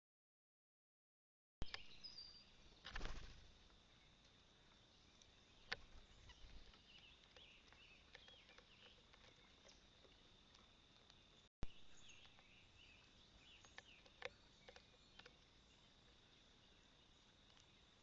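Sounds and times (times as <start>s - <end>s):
soft bird chirps: 1.6s - 18.0s.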